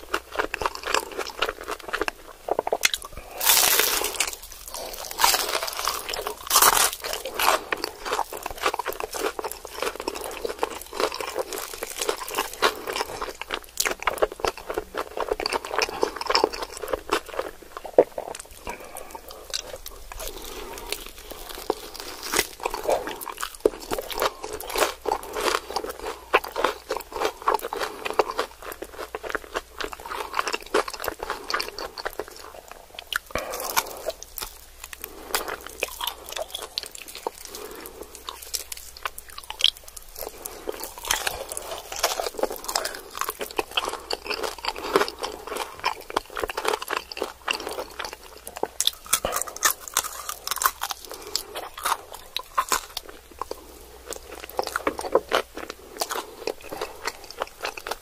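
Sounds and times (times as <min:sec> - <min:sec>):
crunching fried chicken: 0:00.0 - 0:58.0.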